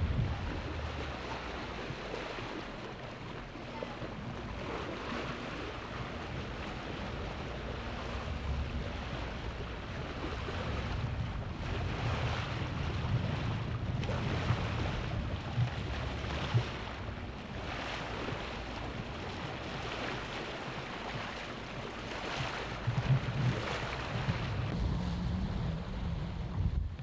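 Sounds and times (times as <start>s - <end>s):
water splashing along hull: 0.0s - 27.0s
wind buffeting microphone: 0.0s - 27.0s.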